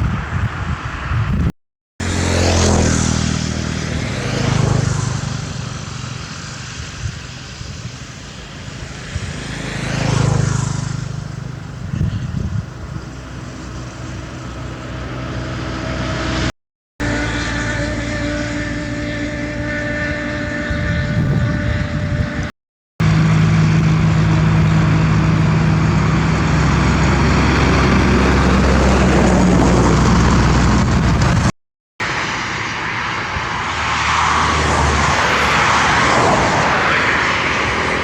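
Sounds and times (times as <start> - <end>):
whooshes of passing vehicles: 0.0 - 38.0
engine running: 1.3 - 38.0.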